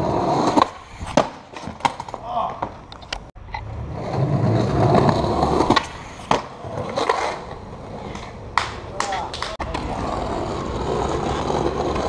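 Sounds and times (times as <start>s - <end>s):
skateboard wheels rolling on concrete: 0.0s - 12.0s
skateboard clacking on pavement: 0.3s - 3.3s, 4.0s - 12.0s.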